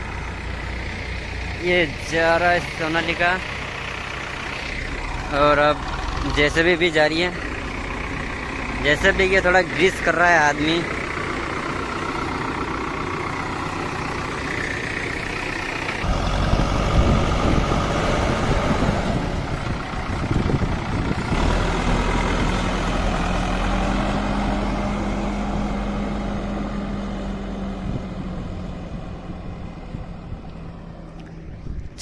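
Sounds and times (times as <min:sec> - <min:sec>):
diesel tractor engines running: 0:00.0 - 0:32.0.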